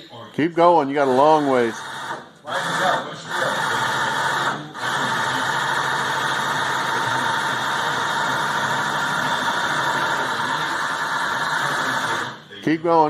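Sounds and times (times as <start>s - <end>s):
flap drive motor running: 1.0s - 12.4s.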